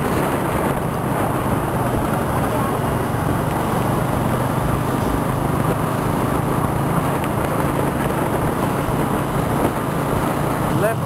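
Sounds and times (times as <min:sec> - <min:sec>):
road and wind noise: 0:00.0 - 0:11.0
scooter engine hum: 0:00.0 - 0:11.0.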